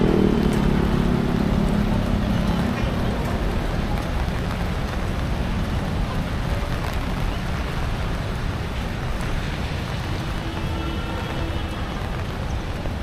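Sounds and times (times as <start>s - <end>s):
low rumble of traffic: 0.0s - 13.0s
rain on wet paving: 0.0s - 13.0s.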